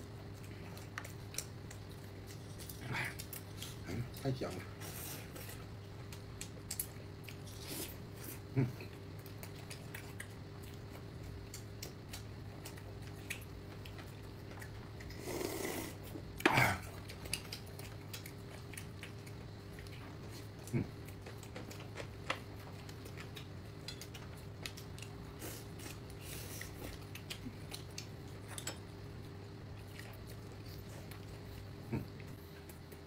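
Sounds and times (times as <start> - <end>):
steady low hum: 0.0 - 33.0
person chewing: 4.8 - 33.0.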